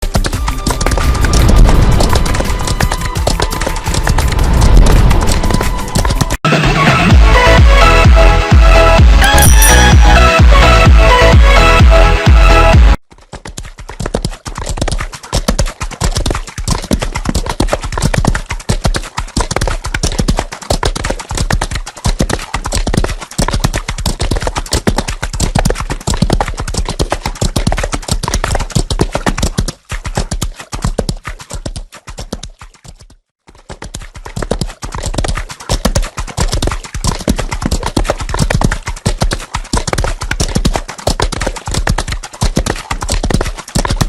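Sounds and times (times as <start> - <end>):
horses galloping: 0.0 - 6.4, 13.2 - 44.0.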